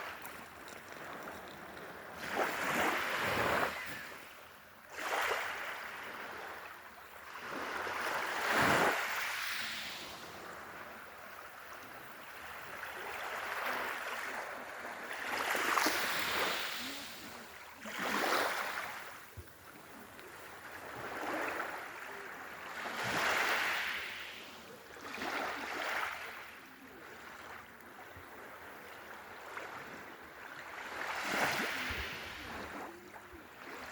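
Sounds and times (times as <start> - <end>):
waves breaking on a beach: 0.0 - 33.9.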